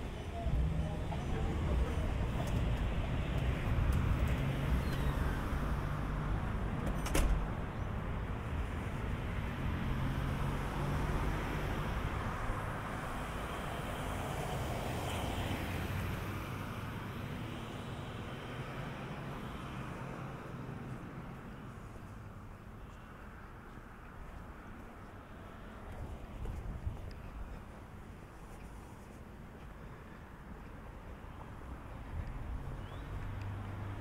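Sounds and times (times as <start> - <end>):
traffic engine rumble: 0.0 - 34.0.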